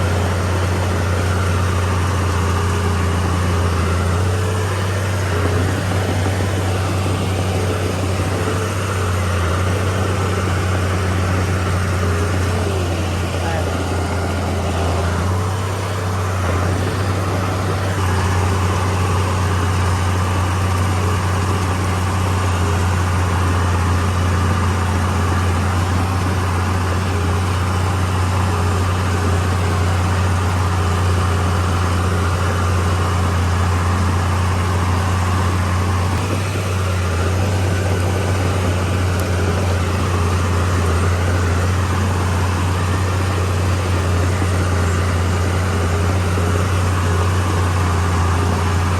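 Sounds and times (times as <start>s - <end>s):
bulldozer diesel engine droning: 0.0s - 48.9s.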